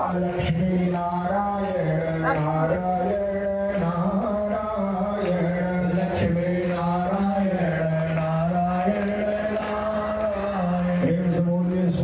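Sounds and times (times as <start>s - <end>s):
devotional chanting over loudspeakers: 0.0s - 12.0s
hand claps: 0.0s - 12.0s.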